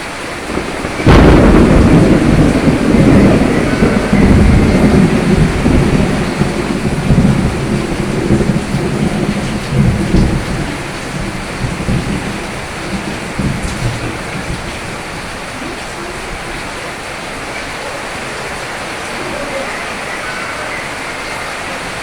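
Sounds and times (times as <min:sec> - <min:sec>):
rolling thunder rumble: 0:00.0 - 0:22.0
steady rain: 0:00.0 - 0:22.0.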